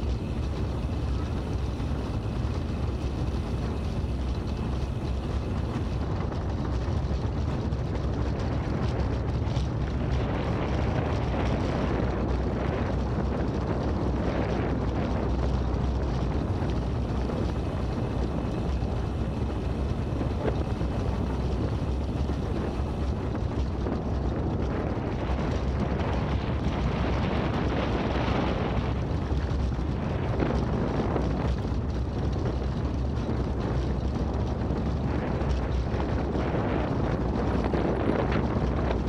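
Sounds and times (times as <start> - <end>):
wind noise: 0.0 - 39.0.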